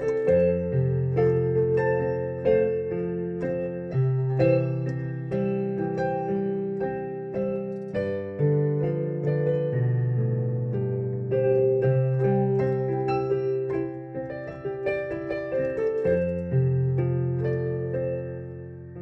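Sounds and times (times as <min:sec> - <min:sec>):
electronic keyboard playing ballad: 0:00.0 - 0:19.0.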